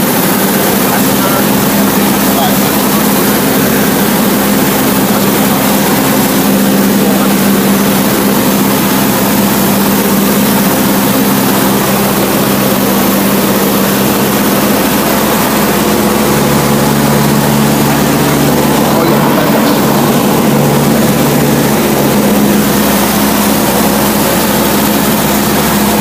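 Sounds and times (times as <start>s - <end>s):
light aircraft engine and propeller: 0.0s - 26.0s
low tone: 0.0s - 26.0s.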